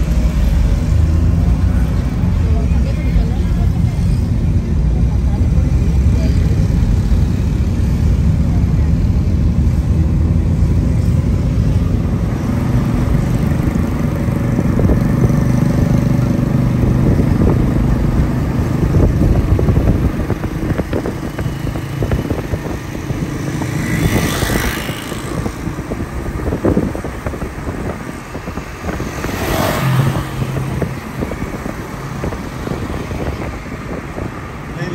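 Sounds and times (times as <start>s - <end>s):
car engine and road rumble: 0.0s - 34.9s
motorcycles passing: 0.0s - 34.9s.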